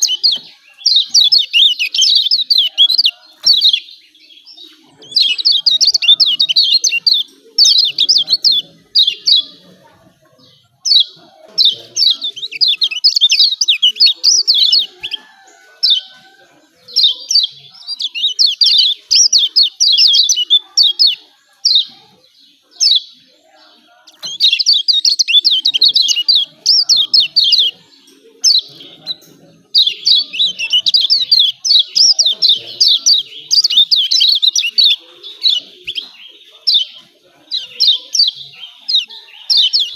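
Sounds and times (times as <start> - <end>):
bird scratchy chatter calls: 0.0 - 39.9.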